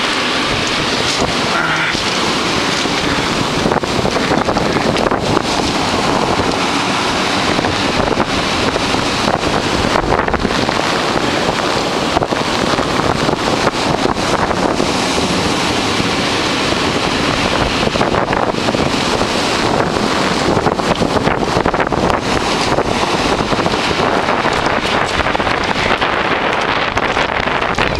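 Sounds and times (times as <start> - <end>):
heavy surf breaking on shore: 0.0 - 27.9
wind buffeting microphone: 0.0 - 27.9.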